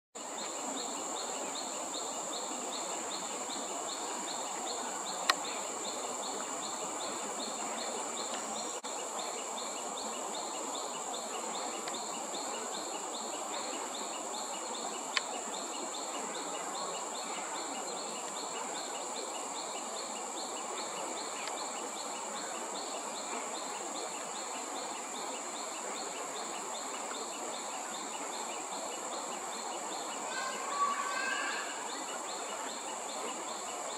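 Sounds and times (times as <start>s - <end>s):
background hiss: 0.2s - 33.9s
insects buzzing: 0.2s - 33.9s
rapid insect chirping: 0.2s - 33.9s.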